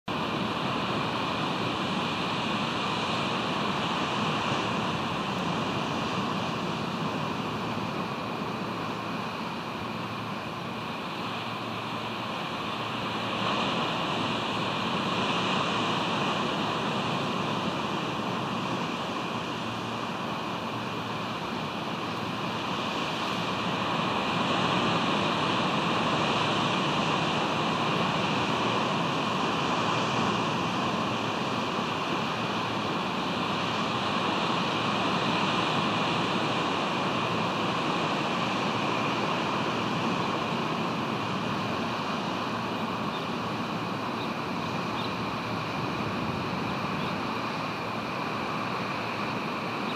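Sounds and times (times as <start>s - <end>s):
ocean surf: 0.1s - 49.9s
wind on microphone: 0.1s - 49.9s.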